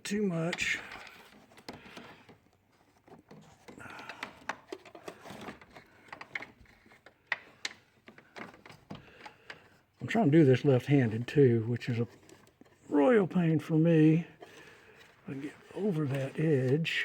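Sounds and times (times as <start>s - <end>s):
probe clicking and scraping on plastic: 0.3s - 17.0s.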